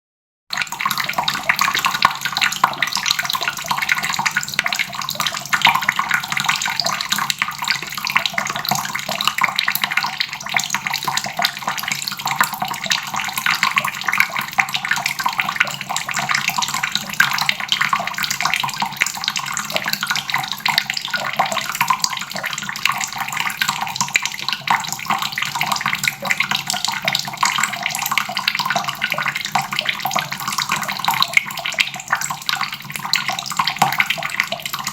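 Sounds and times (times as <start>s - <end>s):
faucet water running into basin: 0.5s - 34.9s.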